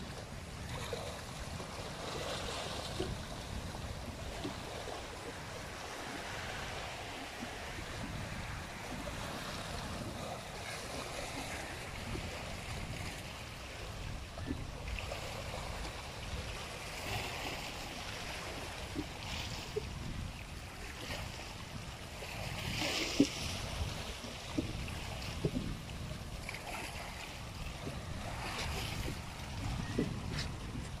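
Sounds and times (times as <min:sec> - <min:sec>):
sea waves washing against rocks: 0:00.0 - 0:31.0
wind on microphone: 0:00.0 - 0:31.0.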